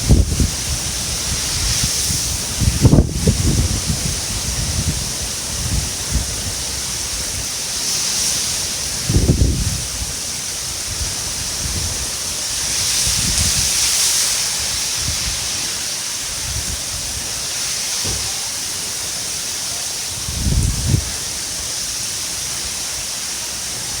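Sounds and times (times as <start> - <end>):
wind rumbling on microphone: 0.0 - 18.4, 20.1 - 23.9
heavy rain hissing: 0.0 - 24.0.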